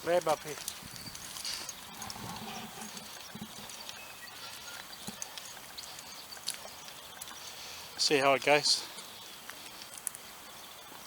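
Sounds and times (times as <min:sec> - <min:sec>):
faint outdoor hiss: 0:00.0 - 0:11.0
footsteps on rough ground: 0:00.0 - 0:11.0.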